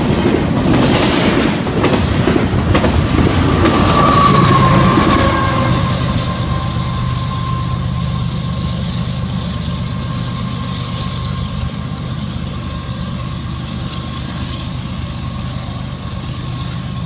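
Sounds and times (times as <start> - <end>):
locomotive diesel rumble: 0.0 - 17.0.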